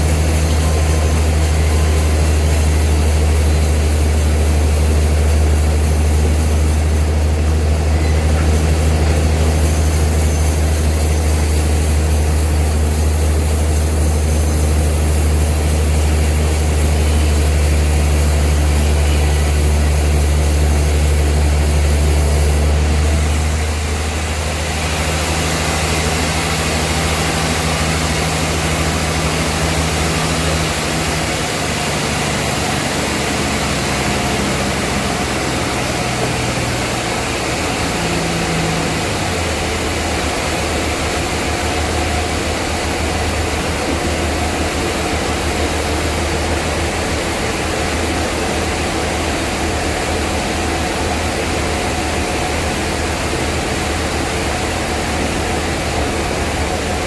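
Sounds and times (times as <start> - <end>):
sawmill machinery engine drone: 0.0 - 57.0.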